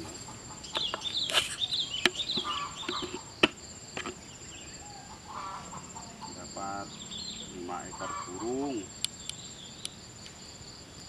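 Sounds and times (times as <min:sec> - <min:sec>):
birds chirping: 0:00.0 - 0:11.0
high-pitched insect drone: 0:00.0 - 0:11.0.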